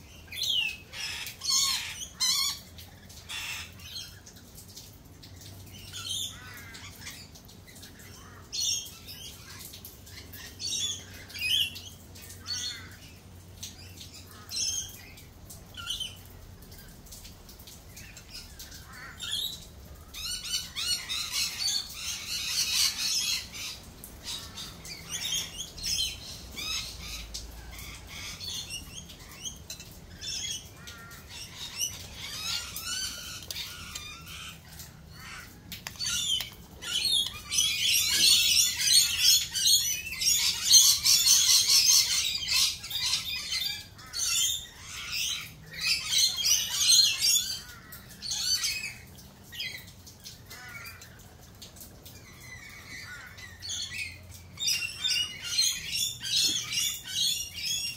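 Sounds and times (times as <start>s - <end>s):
birds squawking and chirping: 0.0s - 57.9s.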